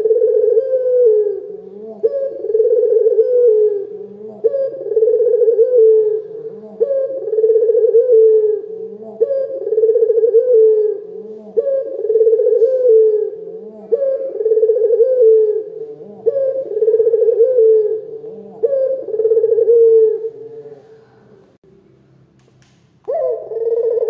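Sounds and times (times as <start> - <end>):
dove cooing: 0.0 - 21.4, 23.1 - 24.0.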